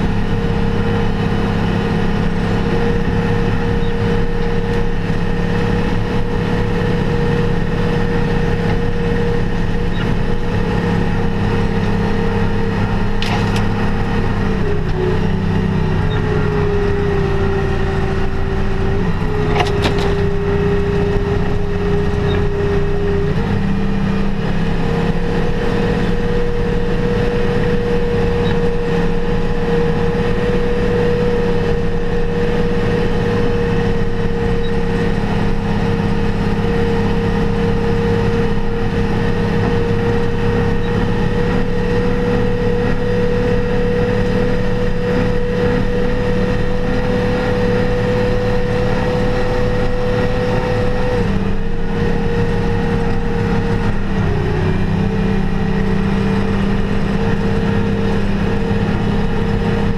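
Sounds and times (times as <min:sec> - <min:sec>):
steady whine: 0:00.0 - 0:59.9
tractor diesel engine running: 0:00.0 - 0:59.9.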